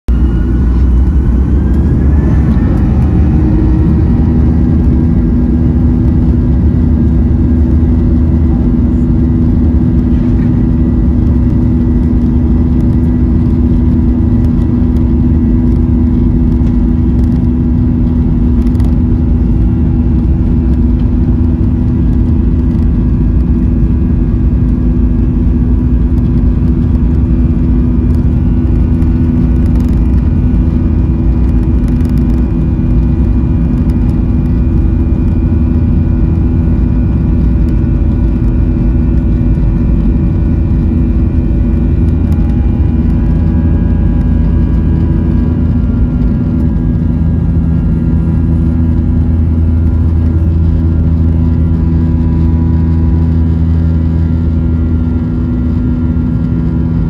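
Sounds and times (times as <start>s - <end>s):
jet engine whine: 0.0s - 57.0s
loud low rumble: 0.0s - 57.0s.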